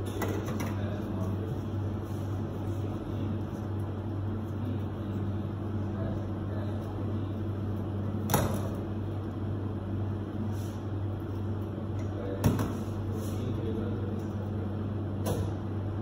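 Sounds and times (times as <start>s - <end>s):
kitchen equipment hum: 0.0s - 16.0s.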